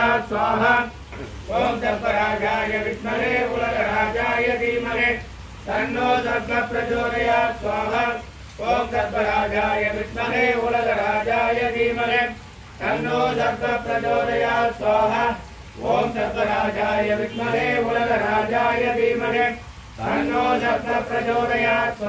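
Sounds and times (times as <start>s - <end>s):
man chanting mantras: 0.0s - 22.0s.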